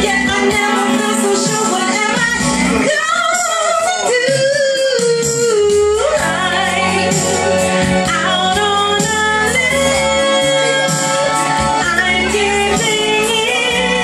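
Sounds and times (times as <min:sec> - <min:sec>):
backing music: 0:00.0 - 0:14.0
woman singing into microphone: 0:00.0 - 0:14.0.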